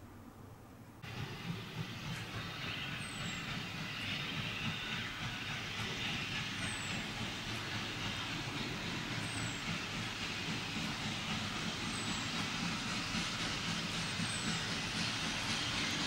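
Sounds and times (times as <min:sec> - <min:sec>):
diesel locomotive rumbling: 0:01.0 - 0:16.0.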